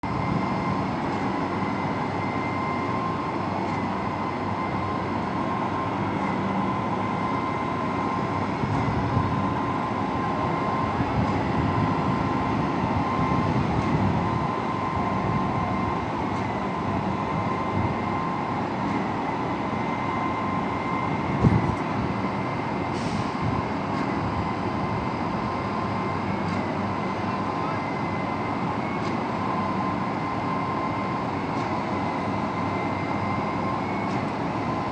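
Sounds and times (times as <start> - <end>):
high machine whine: 0.1 - 34.9.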